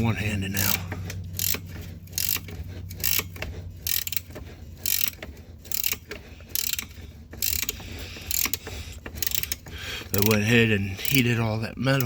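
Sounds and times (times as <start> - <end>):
ratchet wrench clicking: 0.5 - 12.0.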